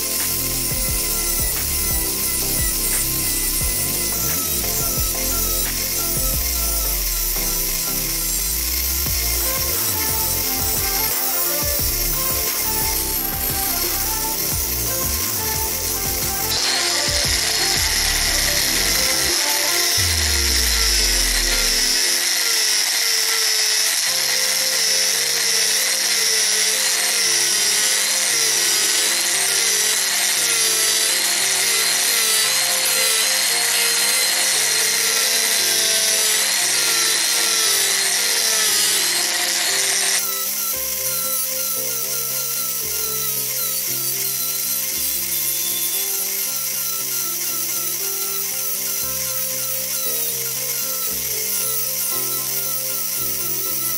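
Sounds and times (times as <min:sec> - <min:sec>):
background music: 0:00.0 - 0:53.9
rotary tool sanding wood: 0:00.0 - 0:53.9.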